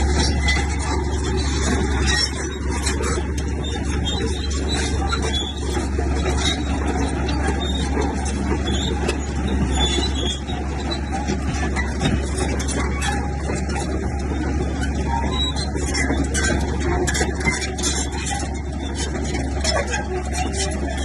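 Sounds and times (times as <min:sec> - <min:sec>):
bulldozer diesel engine running: 0:00.0 - 0:21.0
metallic squeaks and clicks: 0:00.0 - 0:21.0.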